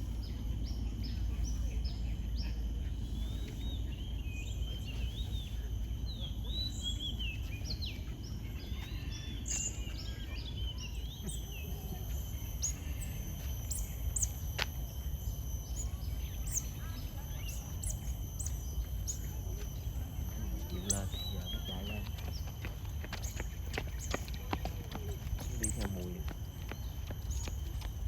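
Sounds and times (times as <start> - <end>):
birds chirping and calling: 0.0 - 27.9.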